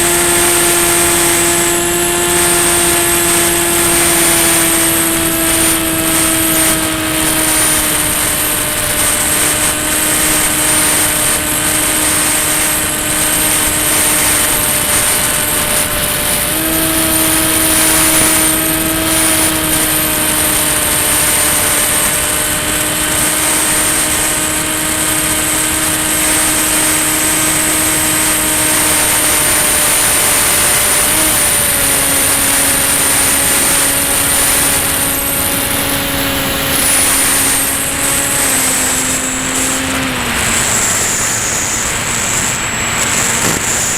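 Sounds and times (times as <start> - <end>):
electric motor and propeller droning: 0.0 - 43.9.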